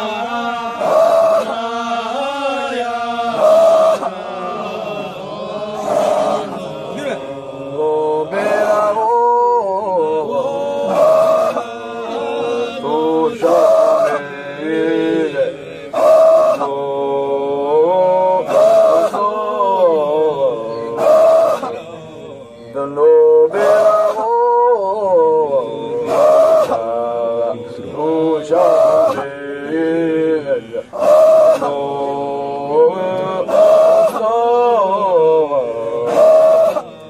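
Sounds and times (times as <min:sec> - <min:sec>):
voices chanting: 0:00.0 - 0:37.0.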